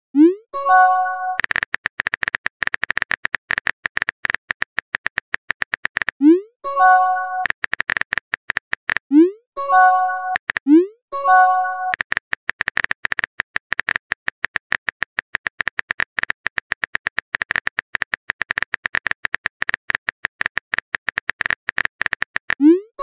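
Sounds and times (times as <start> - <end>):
phone keyboard typing clicks: 0.7 - 6.2, 6.8 - 9.1, 9.8 - 10.7, 11.3 - 22.8.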